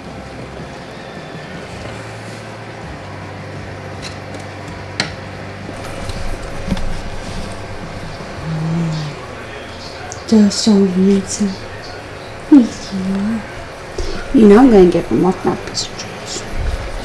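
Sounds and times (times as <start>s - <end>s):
kitchen appliance humming: 0.0s - 17.0s.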